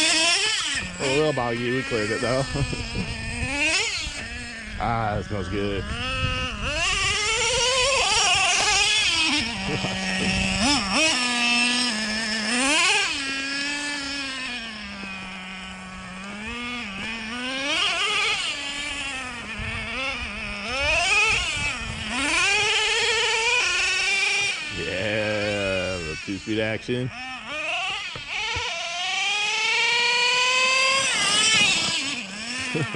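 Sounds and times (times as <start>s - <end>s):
nitro engine revving: 0.0s - 32.9s.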